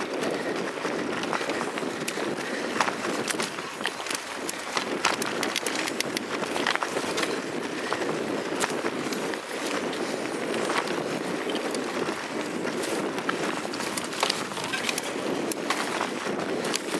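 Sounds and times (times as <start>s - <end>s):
bike clicks and rattles: 0.0s - 16.9s
bike tyres rolling on dirt: 0.0s - 16.9s.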